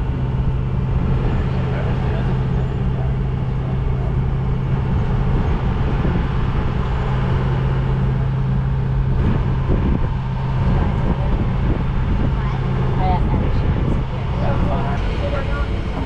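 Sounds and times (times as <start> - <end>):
rumbling road noise: 0.0 - 16.0
tram drive humming: 0.0 - 16.0.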